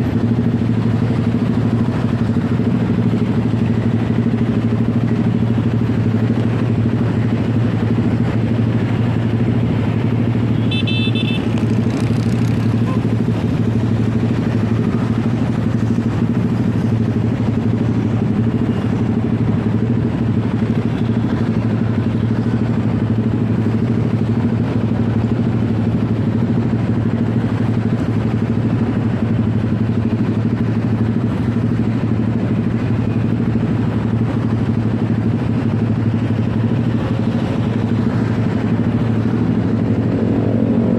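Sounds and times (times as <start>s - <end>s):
motorcycle engine hum: 0.0s - 40.9s
road noise: 0.0s - 40.9s.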